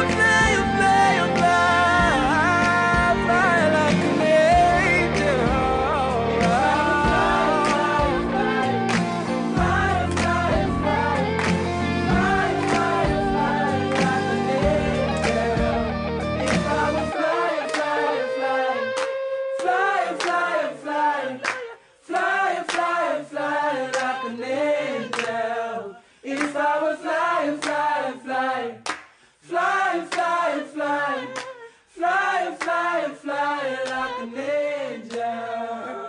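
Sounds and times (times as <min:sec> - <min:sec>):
person singing unaccompanied: 0:00.0 - 0:28.5, 0:29.5 - 0:36.0.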